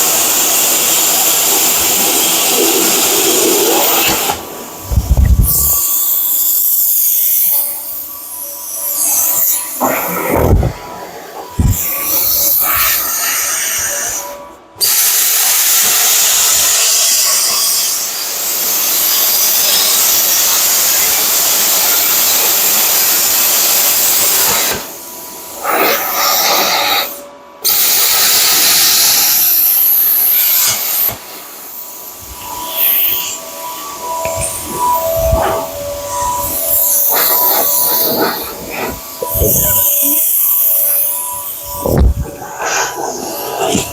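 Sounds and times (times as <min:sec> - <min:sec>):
plasma cutter hissing: 0:00.0 - 0:43.9.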